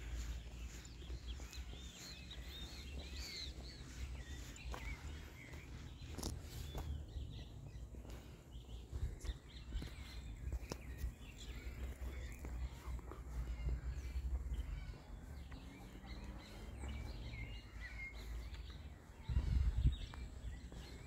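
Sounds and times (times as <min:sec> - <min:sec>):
small birds chirping and twittering: 0:00.0 - 0:21.0
steady low rumble: 0:00.0 - 0:21.0.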